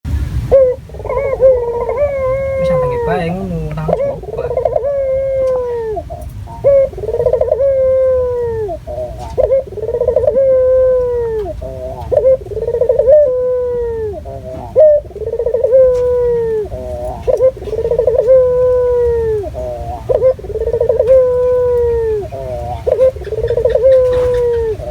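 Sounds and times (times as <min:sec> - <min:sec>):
collared dove cooing: 0:00.4 - 0:24.9.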